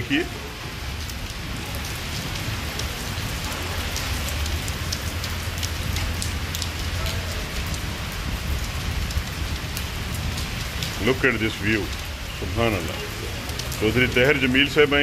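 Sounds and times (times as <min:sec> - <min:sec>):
heavy rain hiss: 0:00.0 - 0:15.0
large raindrops ticking: 0:00.0 - 0:15.0.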